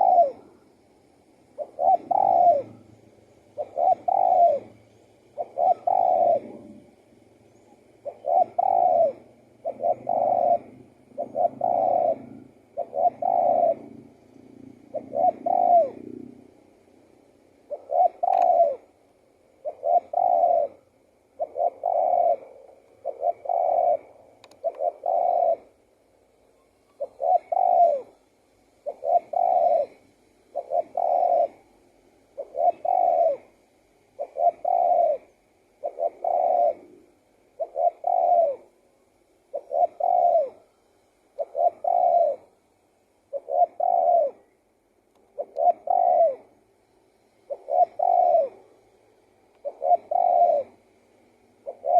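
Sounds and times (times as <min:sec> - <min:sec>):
dove cooing: 0:00.0 - 0:44.6, 0:45.2 - 0:46.6, 0:47.3 - 0:51.9.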